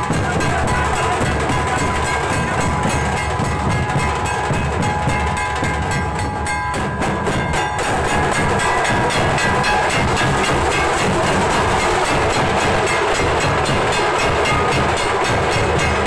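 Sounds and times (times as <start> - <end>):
barrel drums beaten fast: 0.0 - 16.0.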